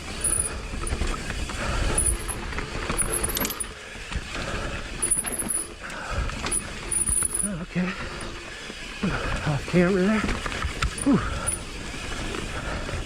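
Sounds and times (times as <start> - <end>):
bike rattling over bumps: 0.0 - 13.0
bike tyres rumbling on dirt: 0.0 - 13.0.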